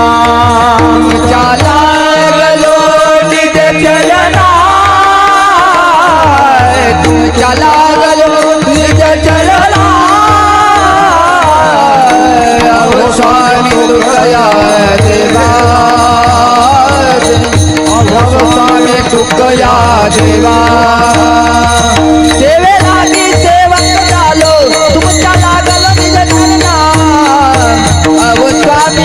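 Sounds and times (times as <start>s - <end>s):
hand drum beat: 0.0s - 29.0s
held accompanying tones: 0.0s - 29.0s
person singing ornamented vocal run: 0.0s - 29.0s.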